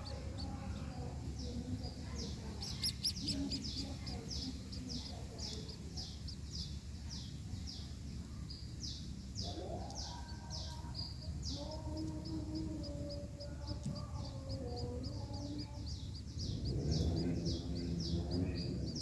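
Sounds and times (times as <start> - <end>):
finches chirping: 0.0 - 19.0
low background hum: 0.0 - 19.0.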